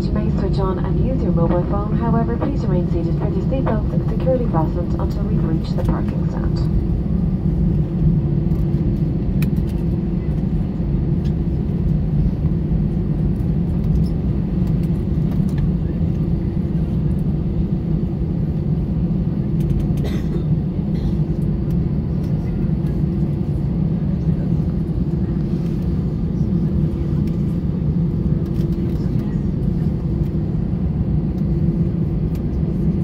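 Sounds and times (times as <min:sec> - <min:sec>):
airliner cabin engine rumble: 0:00.0 - 0:33.0.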